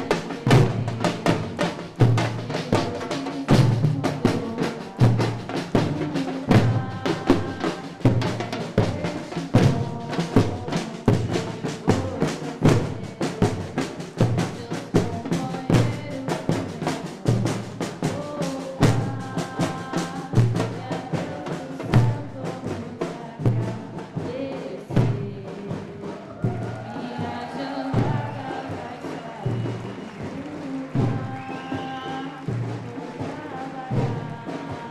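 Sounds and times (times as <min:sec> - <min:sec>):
percussion ensemble drumming: 0:00.0 - 0:34.9.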